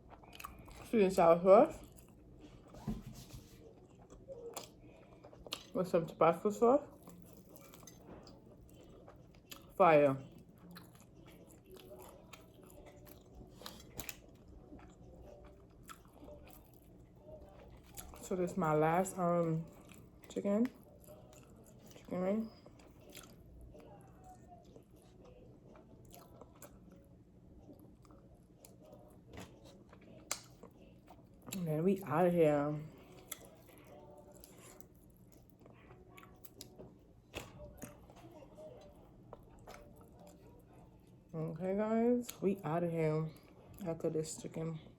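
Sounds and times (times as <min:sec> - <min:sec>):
chewing crispy fried chicken: 0:00.0 - 0:44.9.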